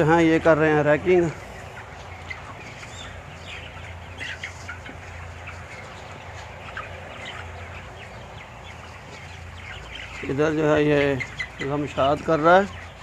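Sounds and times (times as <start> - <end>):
chickens clucking and cheeping: 0.0 - 13.0.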